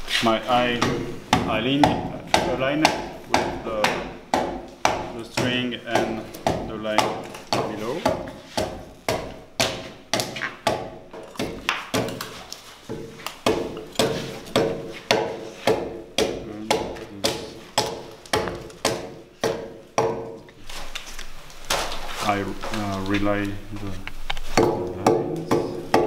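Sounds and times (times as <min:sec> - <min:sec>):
hand tool striking timber: 0:00.6 - 0:20.5, 0:24.4 - 0:26.0.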